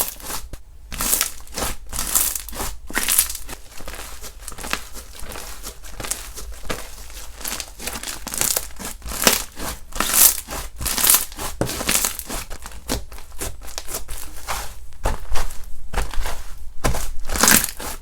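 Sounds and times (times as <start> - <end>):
slime squishing by hand: 0.0 - 18.0.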